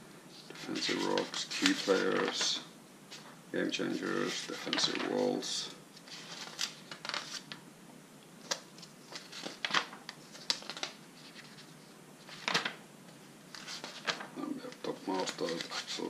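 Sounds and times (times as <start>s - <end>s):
paper pages turning: 0.3s - 3.3s, 4.0s - 5.4s, 6.0s - 7.6s, 8.4s - 12.8s, 13.5s - 16.0s.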